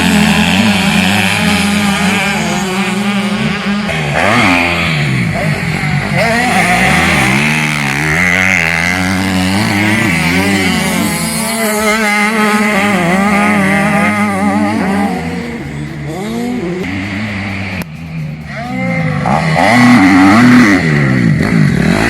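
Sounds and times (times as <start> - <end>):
motocross bikes revving: 0.0 - 22.0
steady engine note: 0.0 - 22.0.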